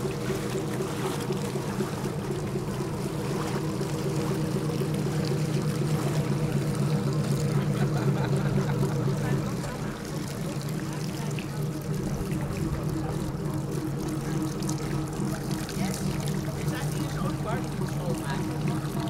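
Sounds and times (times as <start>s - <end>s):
motor running: 0.0s - 19.0s
pouring water: 0.0s - 19.0s.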